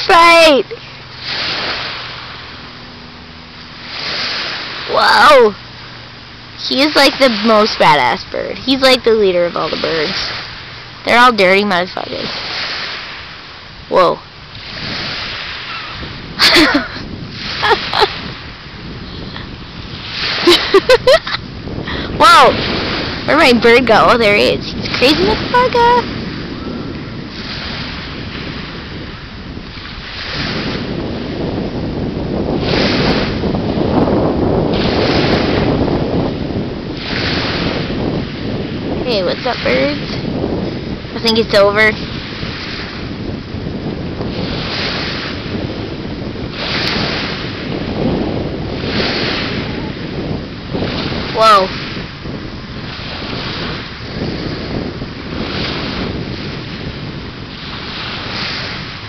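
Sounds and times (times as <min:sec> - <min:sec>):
surf washing: 0:00.0 - 0:59.0
wind rumbling on microphone: 0:00.0 - 0:59.0.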